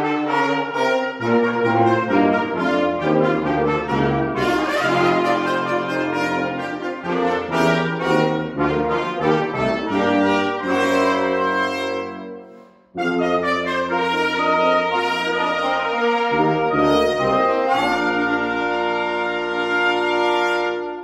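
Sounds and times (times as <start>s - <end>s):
brass quintet playing carol: 0.0s - 21.0s.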